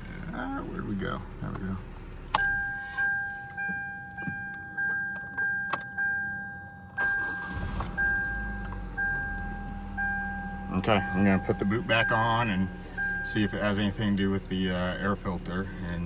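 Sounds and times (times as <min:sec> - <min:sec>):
low engine rumble: 0:00.0 - 0:16.0
car warning chime dinging: 0:02.3 - 0:15.2.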